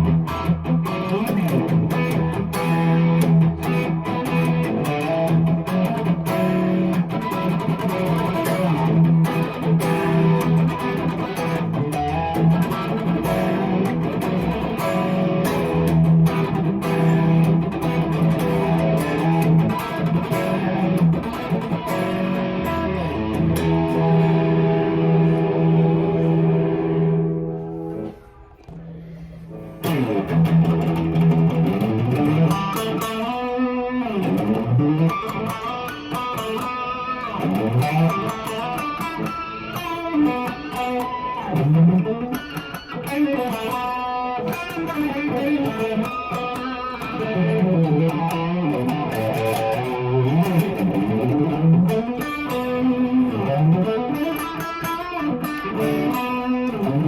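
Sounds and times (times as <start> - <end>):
electric guitar lead line: 0.0 - 57.0.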